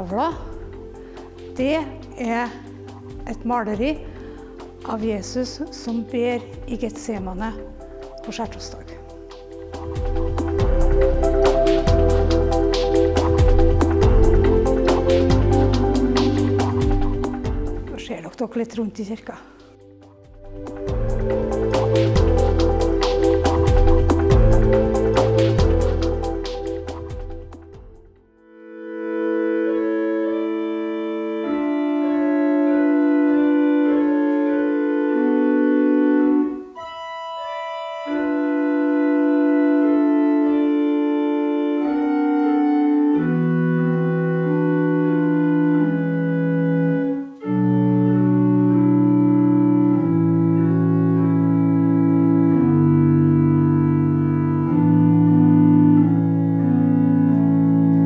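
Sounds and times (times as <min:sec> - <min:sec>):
organ playing slow chords: 0:00.0 - 0:03.2, 0:07.6 - 0:17.9, 0:19.8 - 0:58.0.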